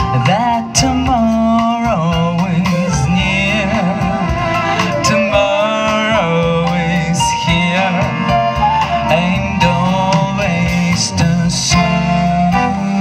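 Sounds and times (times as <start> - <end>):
jazz band playing: 0.0 - 13.0.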